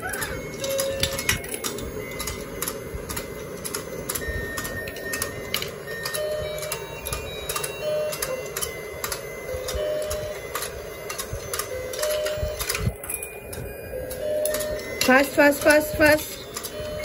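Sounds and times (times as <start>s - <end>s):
small toy motor whirring: 0.0s - 17.0s.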